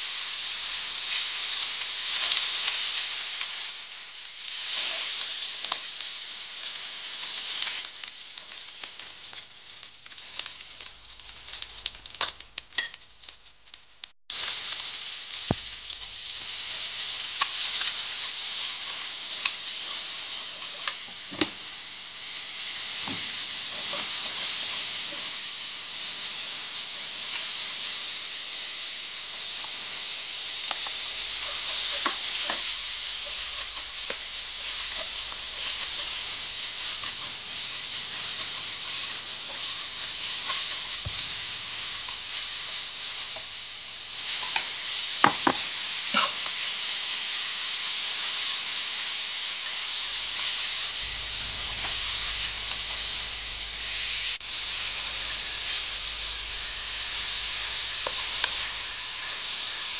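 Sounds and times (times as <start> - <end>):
hot oil sizzling in a wok: 0.0 - 59.9.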